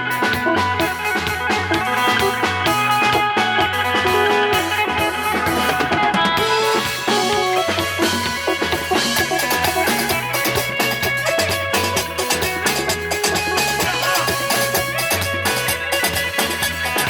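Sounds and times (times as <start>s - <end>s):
band playing: 0.0s - 17.0s
drum kit beat with rimshots: 0.0s - 17.0s.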